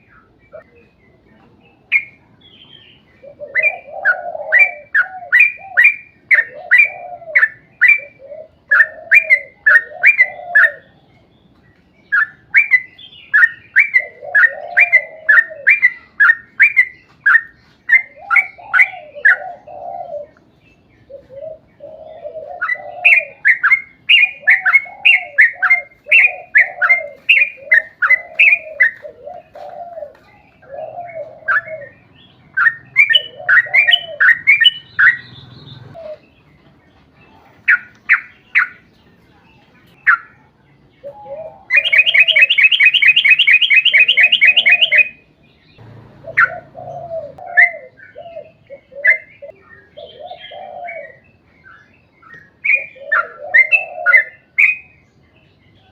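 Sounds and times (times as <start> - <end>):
bulbul chattering song: 0.0 - 20.5, 21.6 - 36.5, 39.8 - 51.5.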